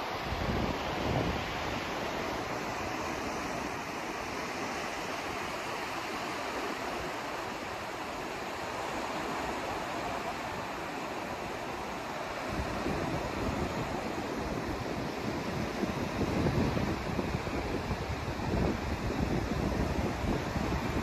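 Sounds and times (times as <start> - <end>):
white noise hiss: 0.0 - 21.0.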